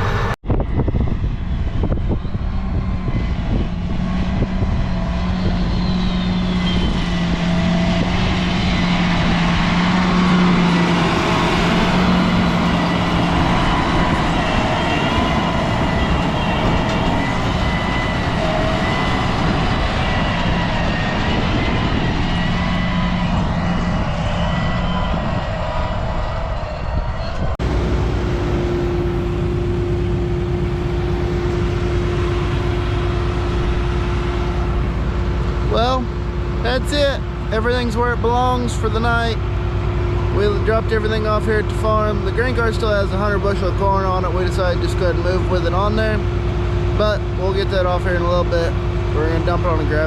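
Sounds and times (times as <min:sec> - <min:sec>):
heavy vehicle engine running: 0:00.0 - 0:50.0.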